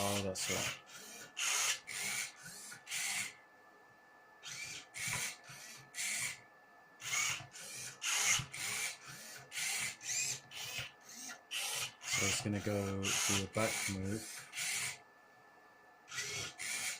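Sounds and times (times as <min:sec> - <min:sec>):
robot short mechanical whirs: 0:00.0 - 0:03.4, 0:04.4 - 0:06.4, 0:07.0 - 0:15.0, 0:16.1 - 0:16.9
faint steady whine: 0:00.0 - 0:16.9.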